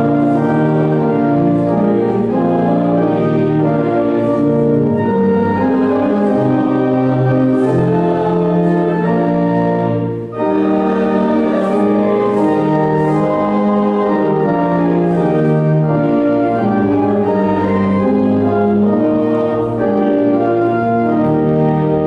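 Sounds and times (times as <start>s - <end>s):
organ playing hymn-style chords: 0.0s - 22.0s.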